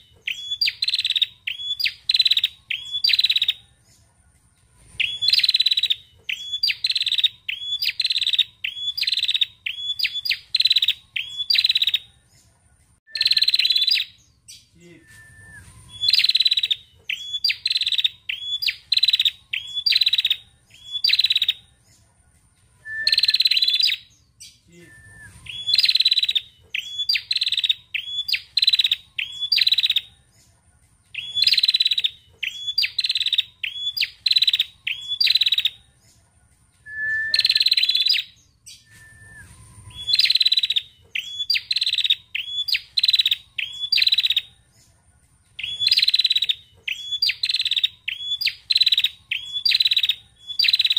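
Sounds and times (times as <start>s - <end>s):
bird calling with high short notes: 0.0s - 3.7s, 4.9s - 12.1s, 13.1s - 21.7s, 22.8s - 30.1s, 31.2s - 35.8s, 36.9s - 44.5s, 45.6s - 50.9s.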